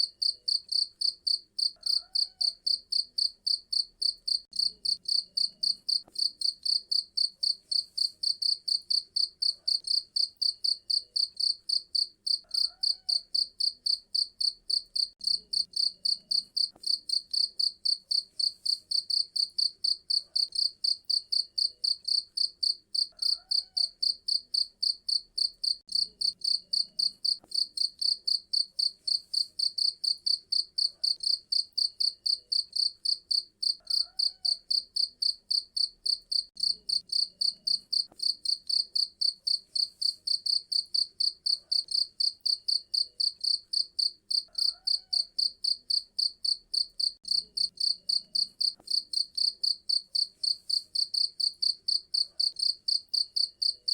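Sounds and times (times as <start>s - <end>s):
cricket chirping: 0.1s - 53.9s.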